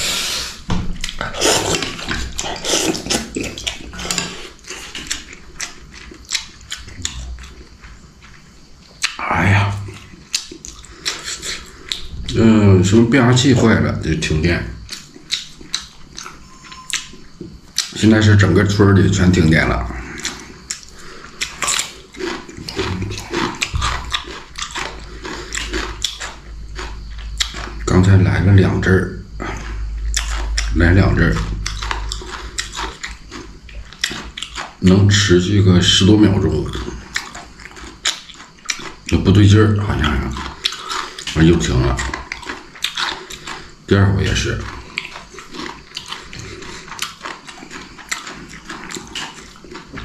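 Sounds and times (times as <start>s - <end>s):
slurping and chewing: 0.0s - 50.0s.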